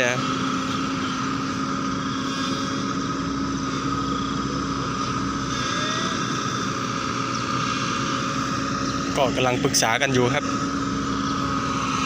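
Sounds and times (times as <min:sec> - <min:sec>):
heavy diesel engine humming: 0:00.0 - 0:12.0
high engine whine: 0:00.0 - 0:12.0.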